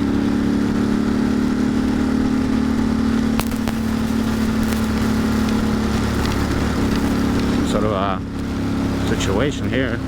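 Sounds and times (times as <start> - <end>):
motorcycle engine running: 0.0 - 10.0
road and wind rumble: 0.0 - 10.0.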